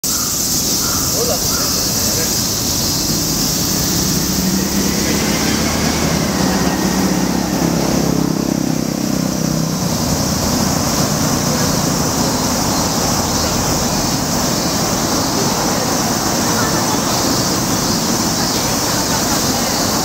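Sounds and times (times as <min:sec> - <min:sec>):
high hiss: 0:00.0 - 0:20.0
steady traffic: 0:00.0 - 0:20.0
passing vehicle engine: 0:00.8 - 0:20.0.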